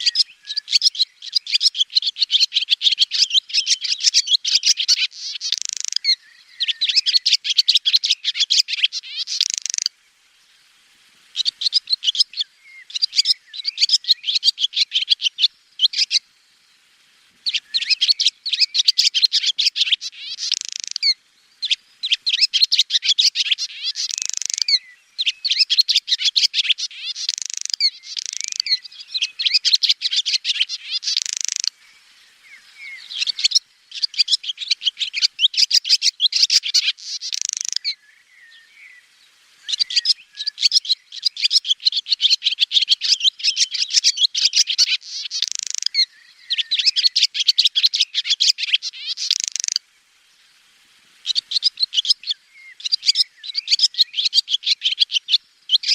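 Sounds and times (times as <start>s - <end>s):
swallow twittering chirps: 0.0s - 55.9s.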